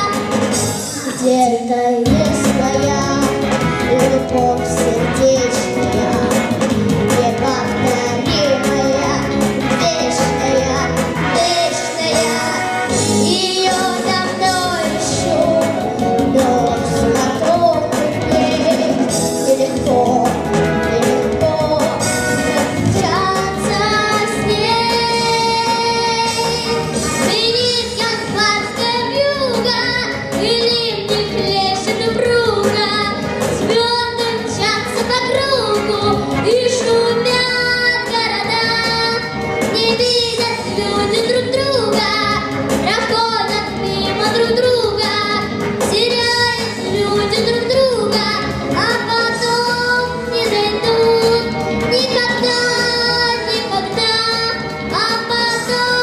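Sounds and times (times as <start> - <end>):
backing track music: 0.0 - 56.0
girl singing pop song: 0.0 - 56.0.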